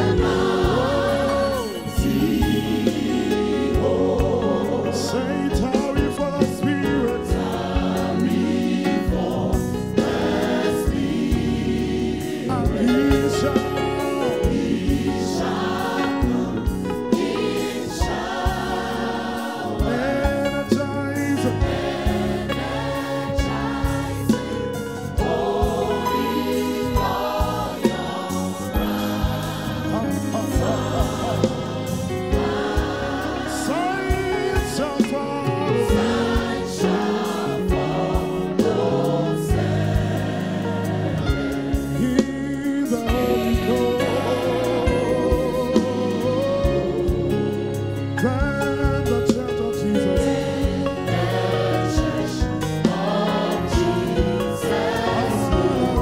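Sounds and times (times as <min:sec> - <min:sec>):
band with steady beat: 0:00.0 - 0:56.0
choir singing a hymn: 0:00.0 - 0:56.0.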